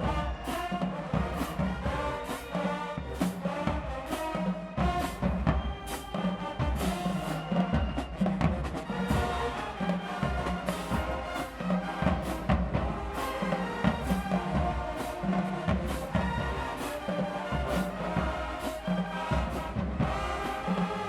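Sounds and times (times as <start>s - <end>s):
brass playing: 0.0s - 8.2s, 8.8s - 21.0s.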